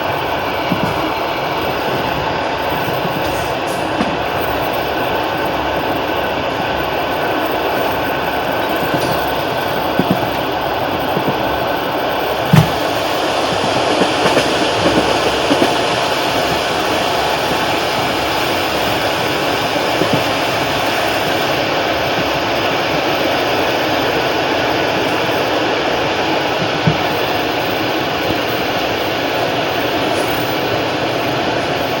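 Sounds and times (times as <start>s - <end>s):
train wheels rumbling on rail: 0.0s - 32.0s
wheels knocking over rail joints: 0.5s - 31.4s.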